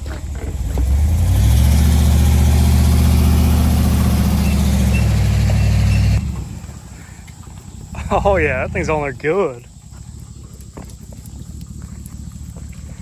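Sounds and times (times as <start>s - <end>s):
vehicle engine revving under load: 0.0s - 13.0s.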